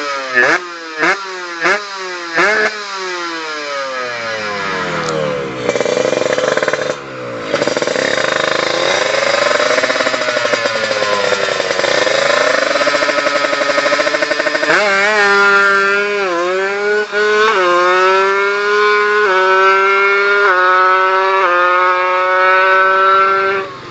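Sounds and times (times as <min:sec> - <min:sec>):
two-stroke motorcycle engine revving: 0:00.0 - 0:23.9.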